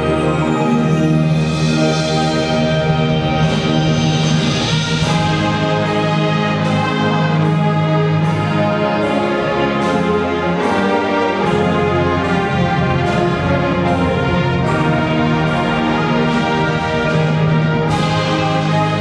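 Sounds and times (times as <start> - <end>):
brass chords: 0.0 - 19.0
percussion beat: 0.0 - 19.0.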